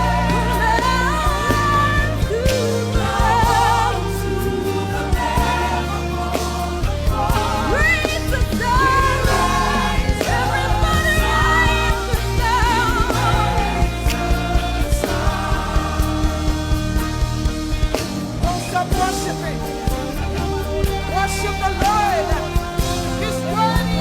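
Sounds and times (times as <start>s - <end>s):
band with low bass: 0.0s - 24.0s
voices singing with vibrato: 0.0s - 24.0s.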